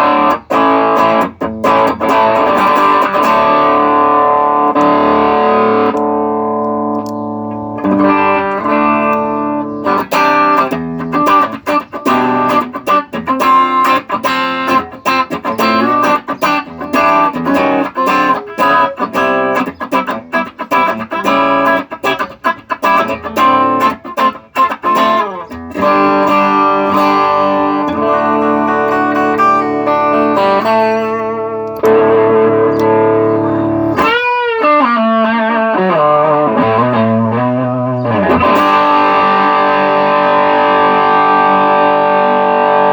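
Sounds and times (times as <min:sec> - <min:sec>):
overdriven electric guitar: 0:00.0 - 0:42.9.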